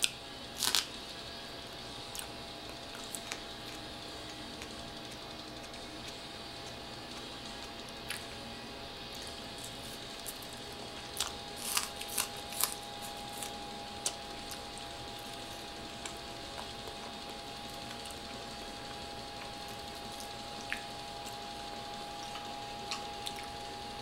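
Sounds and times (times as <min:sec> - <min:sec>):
crunchy food being chewed: 0:00.0 - 0:08.4, 0:09.1 - 0:24.0.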